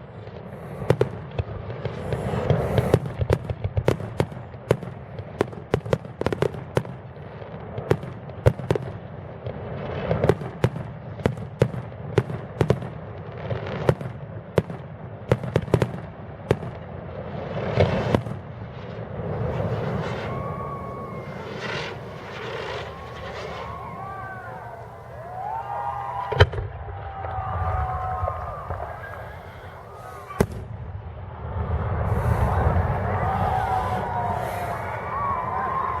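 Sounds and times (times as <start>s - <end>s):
fireworks bangs and cracks: 0.0s - 36.0s
fireworks rumble: 0.0s - 36.0s.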